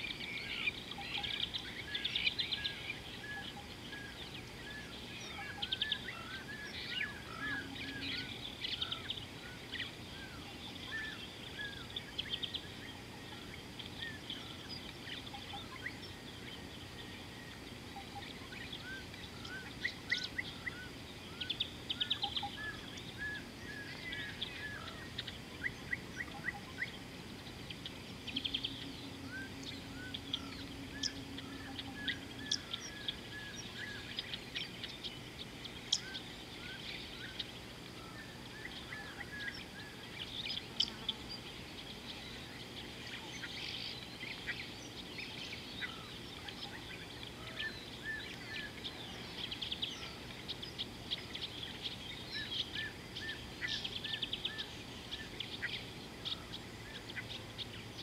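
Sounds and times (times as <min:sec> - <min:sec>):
birds chirping: 0:00.0 - 0:58.0
high twittering bird trills: 0:00.0 - 0:58.0
outdoor background hiss: 0:00.0 - 0:58.0.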